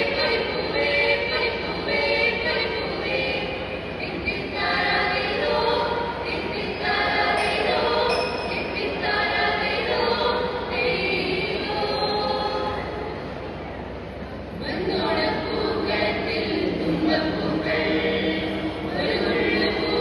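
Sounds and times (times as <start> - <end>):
group singing in unison: 0.0 - 13.1, 14.6 - 20.0.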